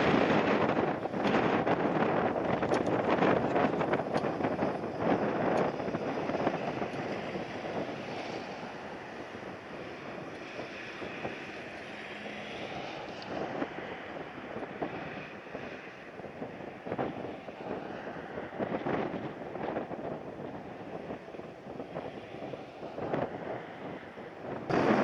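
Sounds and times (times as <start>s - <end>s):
gusty wind buffeting microphone: 0.0s - 25.0s.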